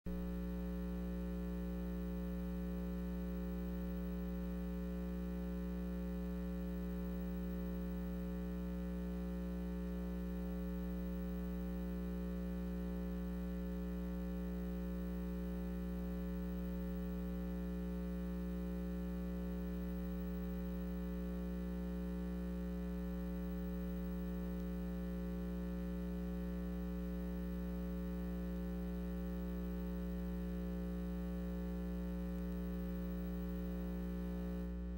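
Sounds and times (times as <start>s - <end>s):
low electronic hum: 0.1s - 34.9s.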